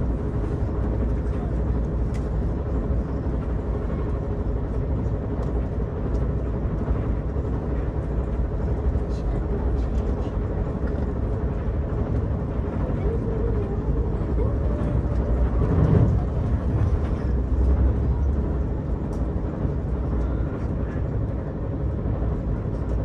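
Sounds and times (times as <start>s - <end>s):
train rumbling along rails: 0.0s - 23.0s.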